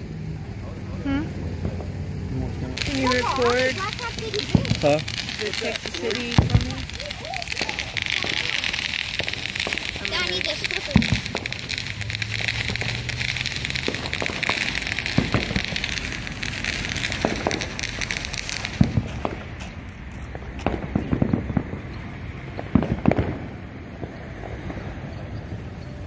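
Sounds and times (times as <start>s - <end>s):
fireworks crackling: 0.0s - 26.0s
fireworks pops and bangs: 1.5s - 26.0s.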